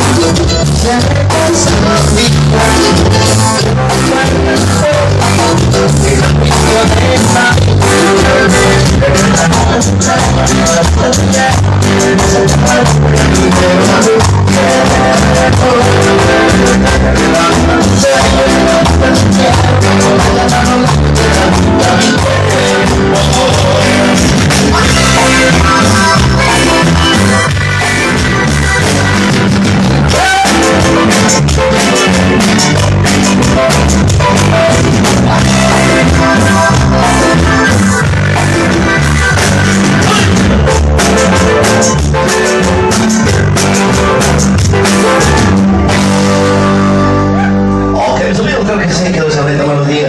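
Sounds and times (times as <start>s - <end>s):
latin dance band music: 0.0s - 50.0s.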